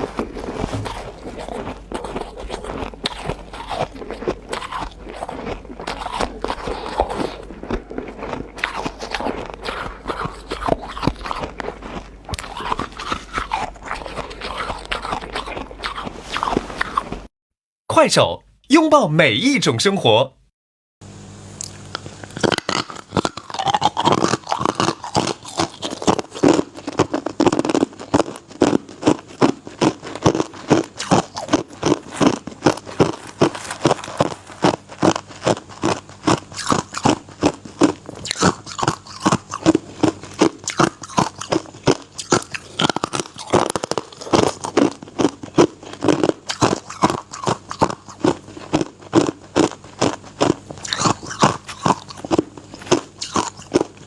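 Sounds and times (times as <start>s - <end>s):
ice being chewed: 0.0s - 17.3s, 21.6s - 54.0s.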